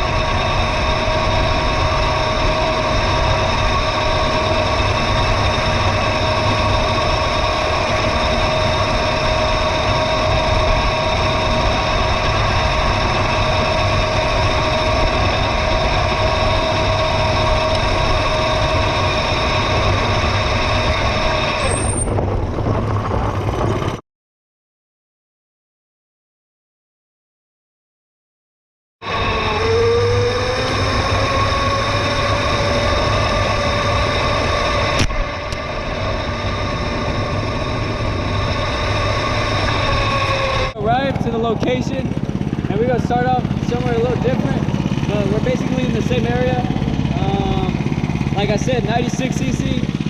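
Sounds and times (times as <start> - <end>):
mini bike engine whine: 0.0 - 24.0, 29.0 - 50.0
wind rumble: 0.0 - 24.0, 29.0 - 50.0.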